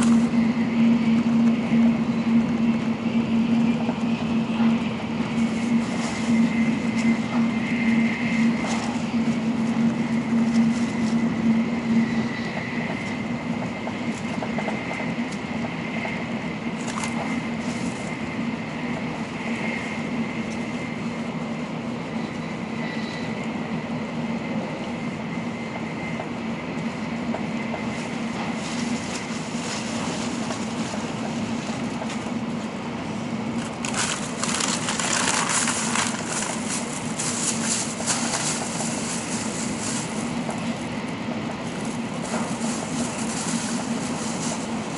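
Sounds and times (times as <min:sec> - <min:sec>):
train cabin rumble and hum: 0:00.0 - 0:44.9.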